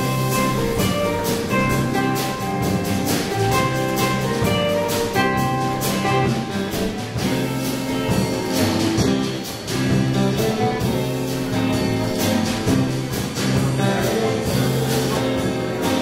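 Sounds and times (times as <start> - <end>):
live band playing: 0.0 - 16.0
steady drum beat: 0.0 - 16.0
sustained electric guitar notes: 0.0 - 16.0.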